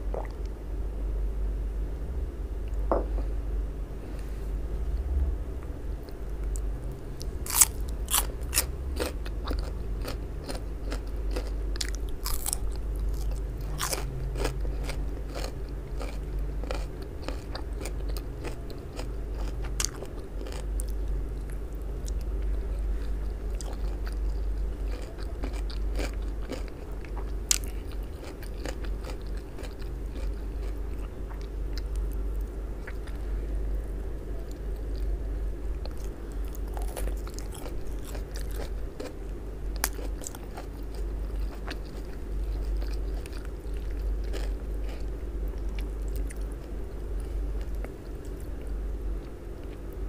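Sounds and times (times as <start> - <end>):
low hum: 0.0 - 50.0
crunching and chewing radish: 6.0 - 50.0.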